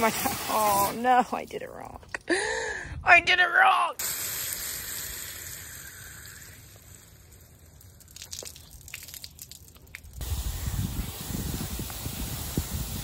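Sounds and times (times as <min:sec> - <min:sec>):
hose nozzle spraying water: 0:00.0 - 0:01.4, 0:04.0 - 0:13.0.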